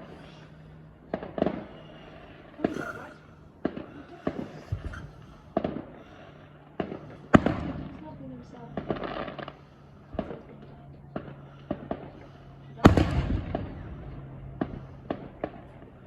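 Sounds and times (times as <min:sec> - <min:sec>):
fireworks bangs with crackling: 0:00.0 - 0:16.0.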